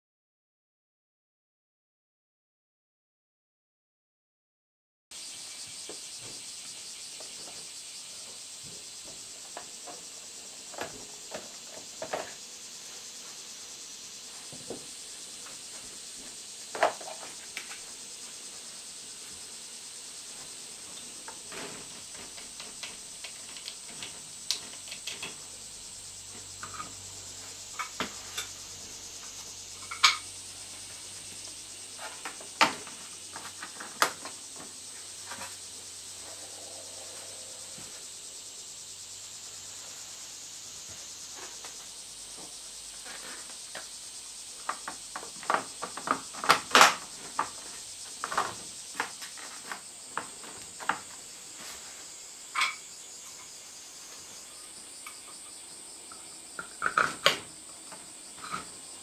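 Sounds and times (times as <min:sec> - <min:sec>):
steady high-pitched hiss: 0:05.1 - 0:59.0.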